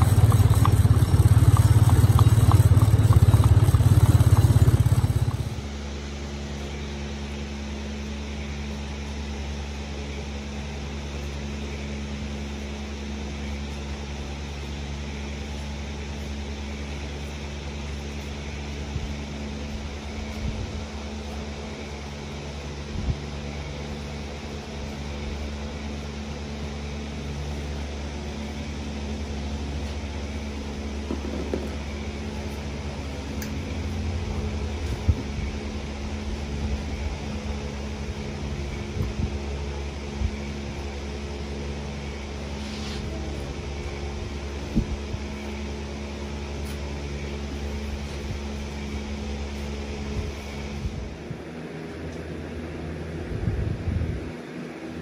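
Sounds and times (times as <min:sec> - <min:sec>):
floor fan humming: 0:00.0 - 0:55.0.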